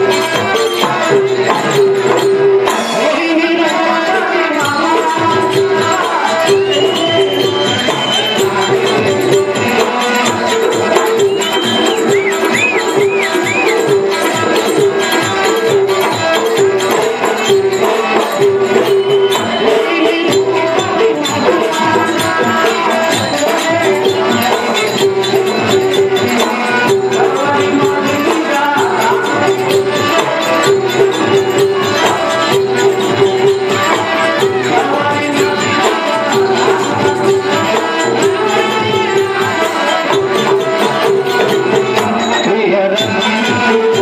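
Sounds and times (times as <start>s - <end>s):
hand drum beat: 0.0s - 44.0s
jingling small percussion: 0.0s - 44.0s.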